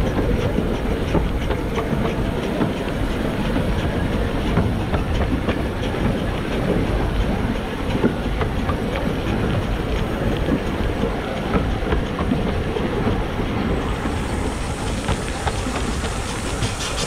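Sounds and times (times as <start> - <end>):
steam locomotive rumble: 0.0 - 17.0
wheels clattering on track: 0.0 - 17.0.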